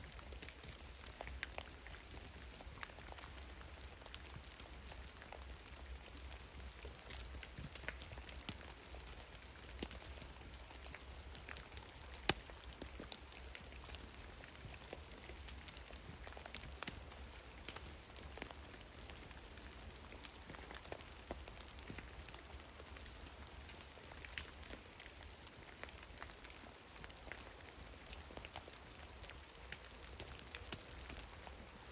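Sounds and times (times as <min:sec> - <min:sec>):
faint steady hiss: 0:00.0 - 0:31.9.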